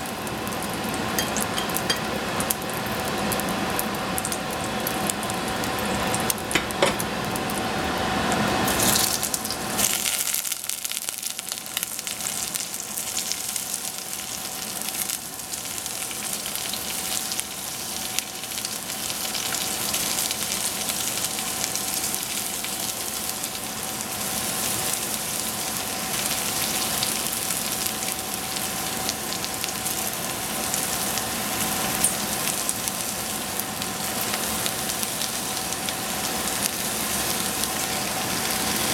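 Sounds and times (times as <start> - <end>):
hot oil sizzling: 0.0 - 38.9.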